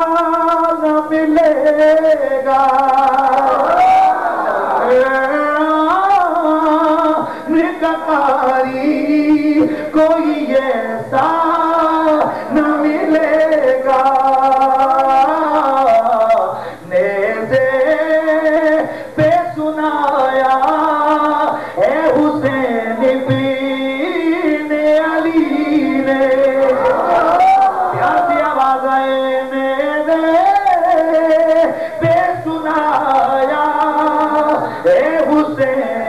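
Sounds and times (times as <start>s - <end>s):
man singing religious recitation: 0.0s - 36.0s.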